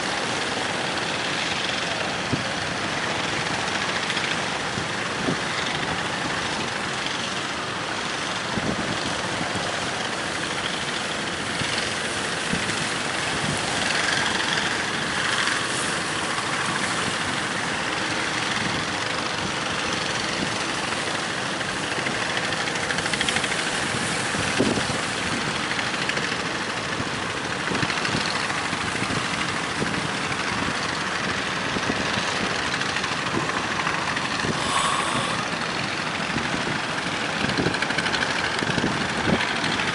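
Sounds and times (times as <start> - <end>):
boat engine running: 0.0 - 39.9
strong wind: 0.0 - 39.9
waves: 0.0 - 39.9.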